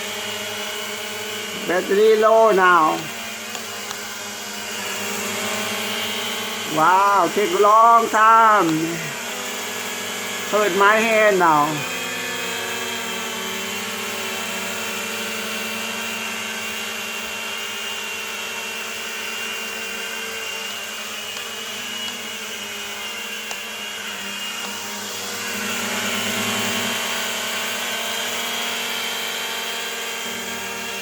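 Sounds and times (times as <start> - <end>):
toy drone propellers whirring: 0.0 - 31.0.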